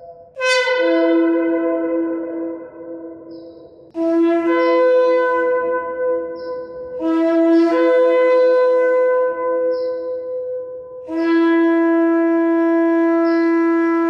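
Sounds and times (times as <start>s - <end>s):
shofar blasts: 0.0s - 9.7s, 11.1s - 14.0s.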